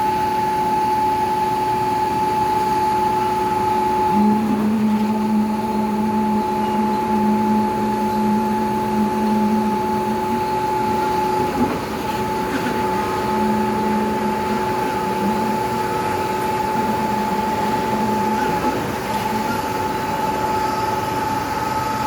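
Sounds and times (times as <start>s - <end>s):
concrete pump truck running: 0.0s - 22.0s.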